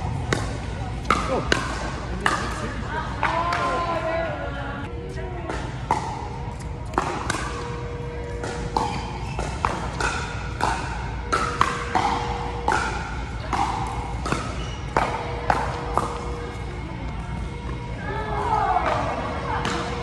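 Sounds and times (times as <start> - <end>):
ball bouncing on court: 0.1 - 3.8, 5.4 - 17.9.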